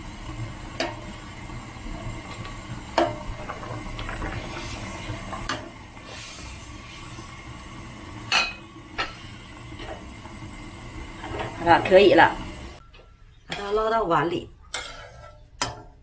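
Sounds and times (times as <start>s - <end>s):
water boiling and bubbling: 0.0s - 12.8s.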